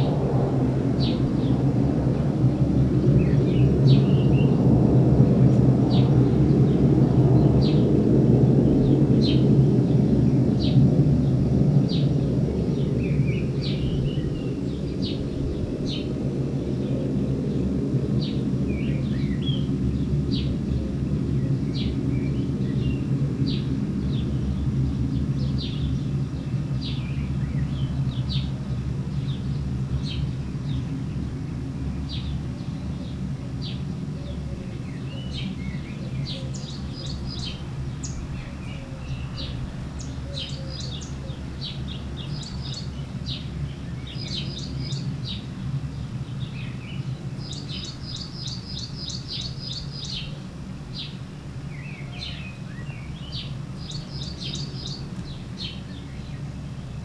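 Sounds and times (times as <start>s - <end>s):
steady low rumble: 0.0s - 57.0s
small birds chirping: 2.5s - 4.6s, 8.6s - 57.0s.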